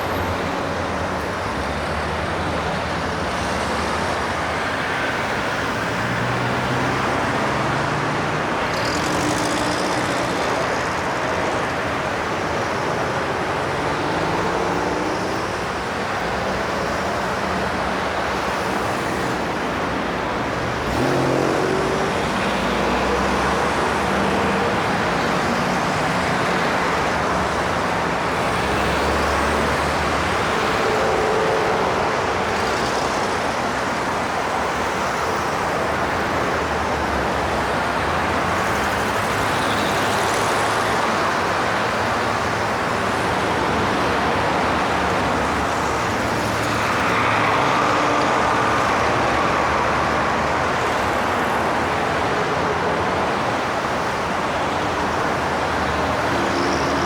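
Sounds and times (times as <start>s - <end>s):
highway traffic: 0.0s - 57.0s.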